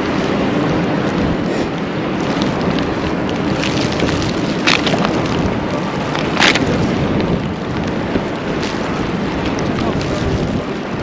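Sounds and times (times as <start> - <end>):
hissing wind gusts: 0.0 - 11.0
wind buffeting microphone: 0.0 - 11.0.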